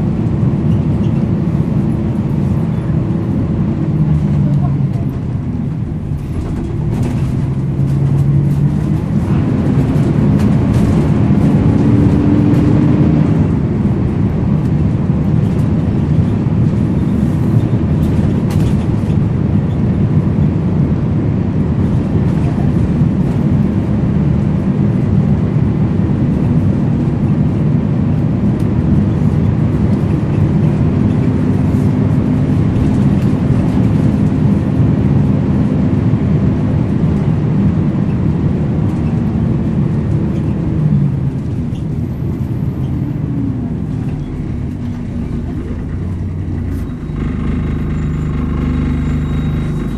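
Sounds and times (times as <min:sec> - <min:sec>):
bus diesel engine: 0:00.0 - 0:49.9.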